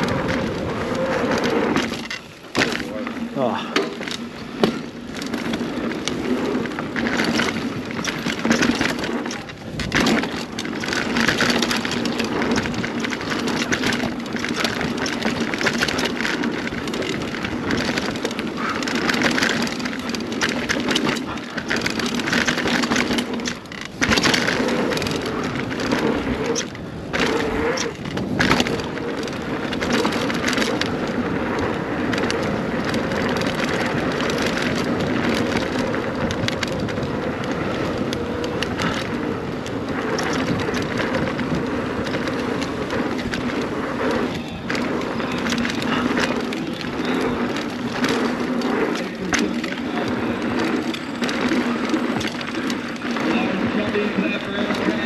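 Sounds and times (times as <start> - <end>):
bike knocking and rattling over bumps: 0.0 - 55.0
tyres rushing on dirt: 0.0 - 55.0.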